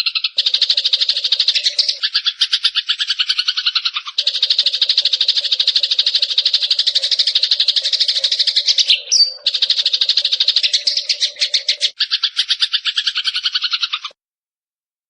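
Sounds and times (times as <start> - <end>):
sparrow chattering trill: 0.0 - 14.2.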